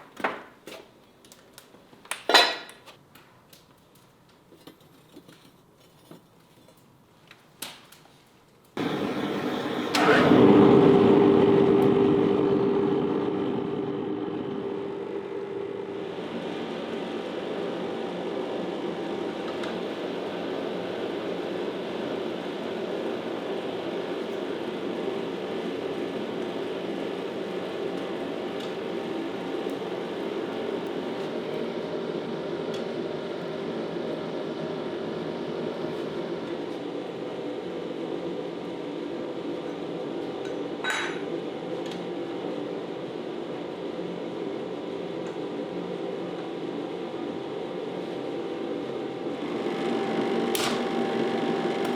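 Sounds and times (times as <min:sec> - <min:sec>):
workshop machine humming: 0:08.8 - 0:51.9.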